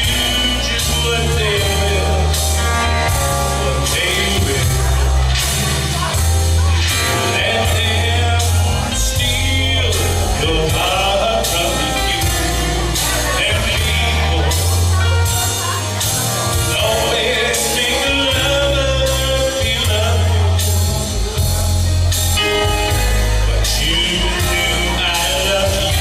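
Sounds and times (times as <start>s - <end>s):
heavy bass: 0.0s - 26.0s
loud rock music: 0.0s - 26.0s
person singing: 0.0s - 26.0s
steady drum beat: 0.0s - 26.0s.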